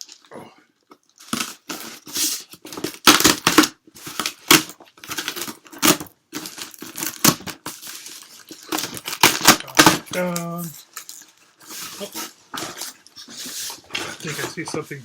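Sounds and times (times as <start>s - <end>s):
packaging tearing and crinkling: 1.0s - 14.7s.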